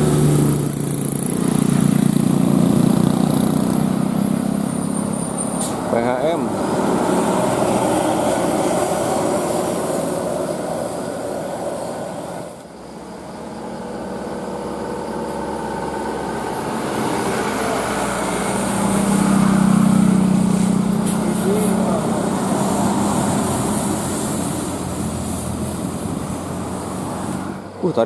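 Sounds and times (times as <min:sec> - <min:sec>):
heavy vehicle driving past: 0:00.0 - 0:28.0.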